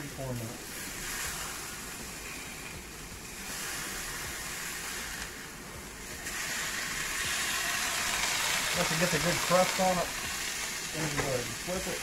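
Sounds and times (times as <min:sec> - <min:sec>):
steak sizzling in a hot pan: 0:00.4 - 0:12.0.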